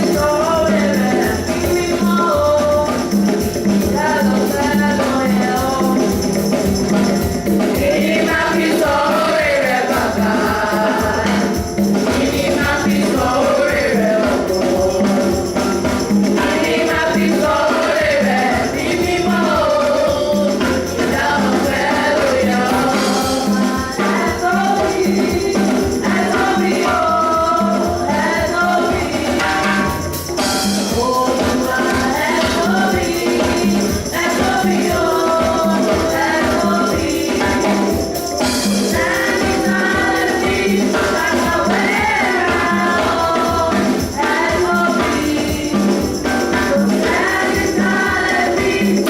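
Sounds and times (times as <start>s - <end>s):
choir singing gospel: 0.0s - 49.0s
tambourine: 0.0s - 49.0s.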